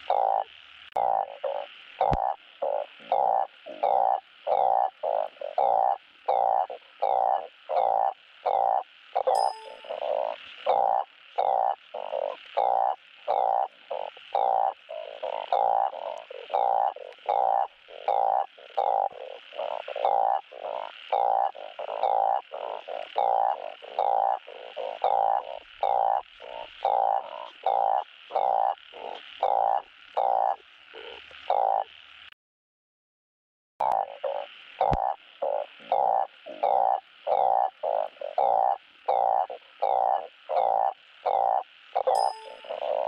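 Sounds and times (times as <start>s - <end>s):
frog croaking: 0.0s - 32.3s, 33.8s - 43.0s.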